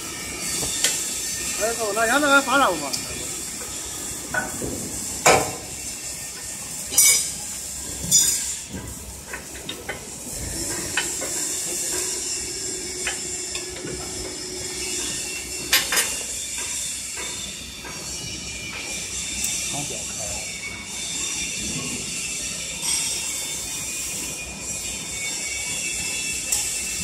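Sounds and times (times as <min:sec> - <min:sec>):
workshop hiss: 0:00.0 - 0:27.0.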